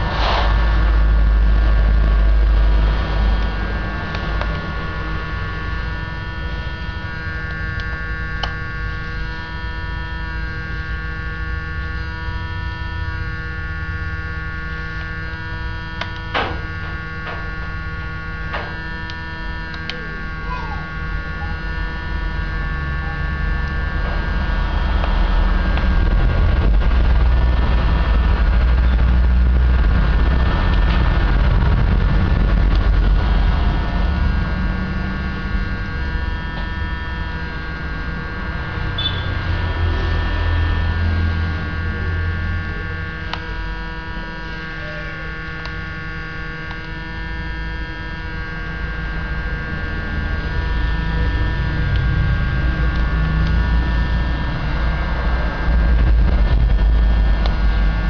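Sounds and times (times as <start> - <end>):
low rumble: 0.0 - 44.7, 47.1 - 58.0
electrical hum: 0.0 - 58.0.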